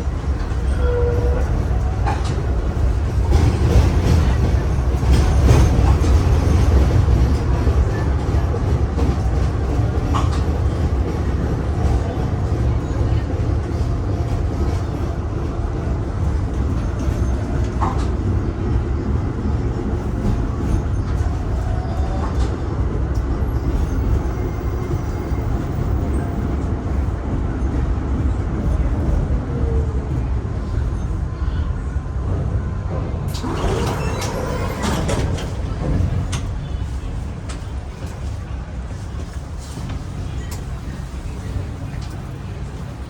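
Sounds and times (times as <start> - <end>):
tram rumbling on rails: 0.0 - 43.0.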